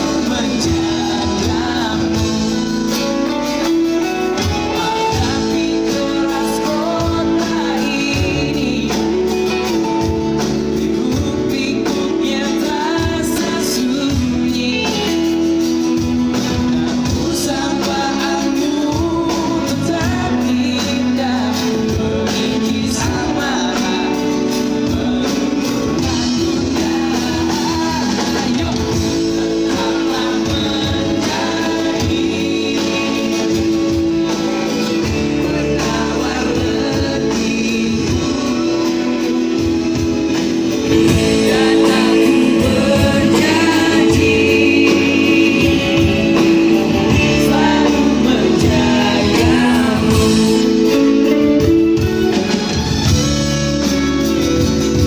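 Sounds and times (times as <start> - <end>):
drums: 0.0 - 55.0
guitars: 0.0 - 55.0
man singing: 0.0 - 55.0.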